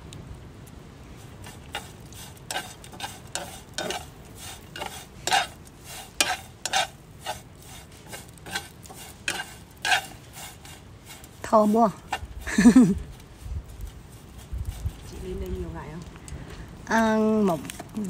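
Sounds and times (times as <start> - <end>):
metal utensil scraping leaves in pan: 1.1 - 15.9.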